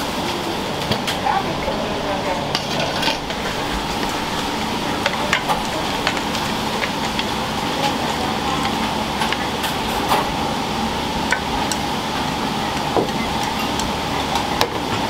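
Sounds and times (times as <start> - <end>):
sizzling or bubbling: 0.0 - 15.0
utensils and dishes clinking: 0.2 - 10.4, 12.8 - 15.0.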